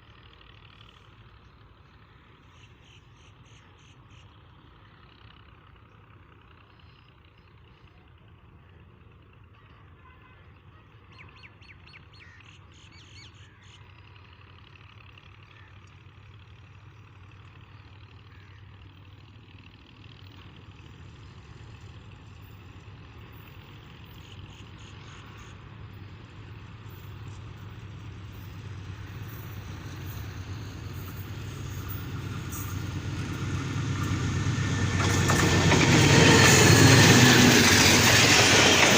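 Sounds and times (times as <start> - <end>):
diesel locomotive rumble: 0.0 - 38.9.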